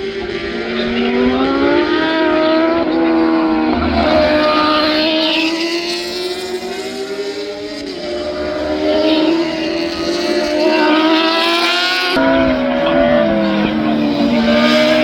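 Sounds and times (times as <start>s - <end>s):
racing motorcycle engines revving: 0.0s - 15.0s.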